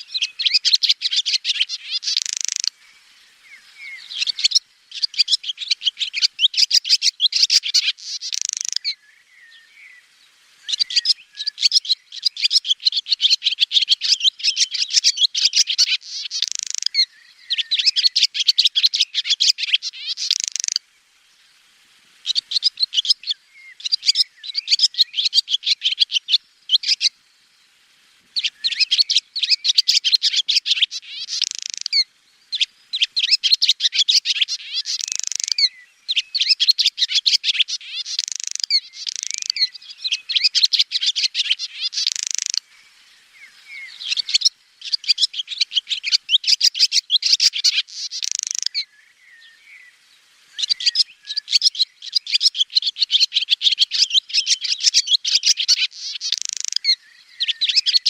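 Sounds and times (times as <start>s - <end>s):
swallow twittering: 0.0s - 20.8s, 22.2s - 27.2s, 28.4s - 58.0s.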